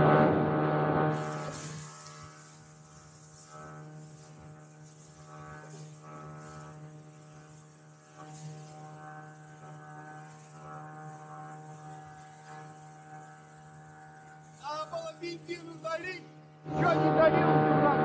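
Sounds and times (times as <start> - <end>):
motorboat engine humming: 0.0 - 14.6, 16.3 - 18.0.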